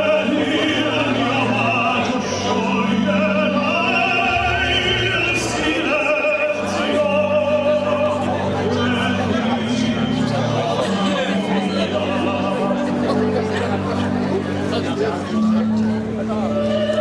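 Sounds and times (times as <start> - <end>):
operatic singing: 0.0 - 17.0
orchestral music: 0.0 - 17.0.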